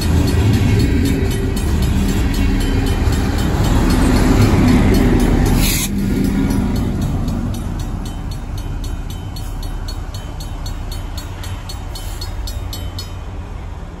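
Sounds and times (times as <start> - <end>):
railroad crossing bell ringing: 0.0 - 14.0
train rumbling away: 0.0 - 14.0.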